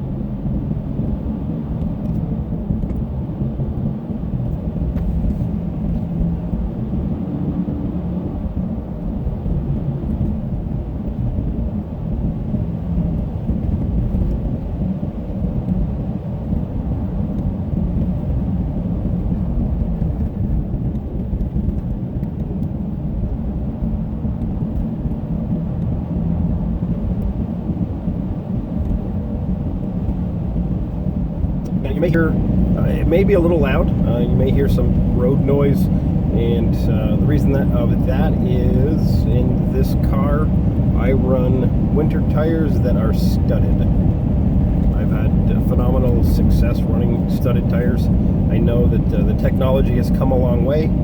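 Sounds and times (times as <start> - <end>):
tires rolling on snowy road: 0.0 - 51.0.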